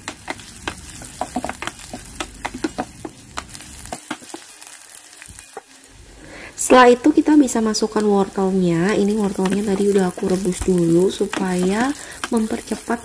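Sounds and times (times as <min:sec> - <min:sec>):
onion sizzling in oil: 0:00.0 - 0:13.0.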